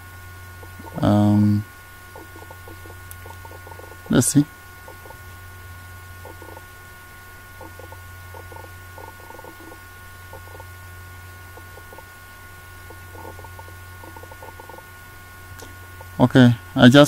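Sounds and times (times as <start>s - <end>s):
steady low hum: 0.0s - 17.0s
faint irregular ticking: 0.2s - 16.4s.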